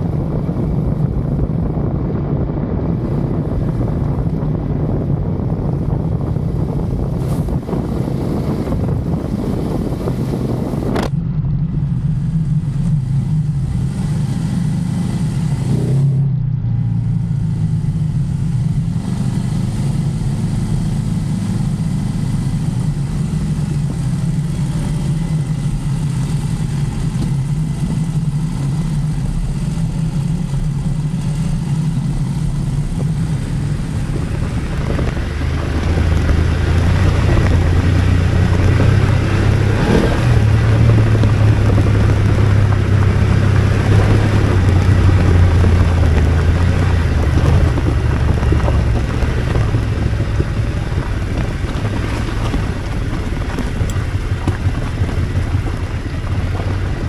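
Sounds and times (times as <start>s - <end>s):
motorcycle engine running: 0.0s - 57.0s
tyre and wind noise hiss: 2.5s - 11.1s, 17.4s - 57.0s.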